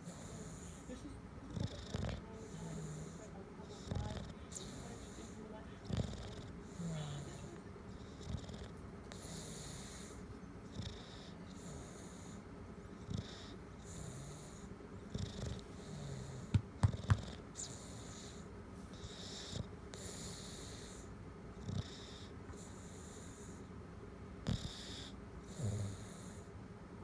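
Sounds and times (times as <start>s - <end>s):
dog snoring: 0.0s - 23.7s, 24.4s - 26.5s.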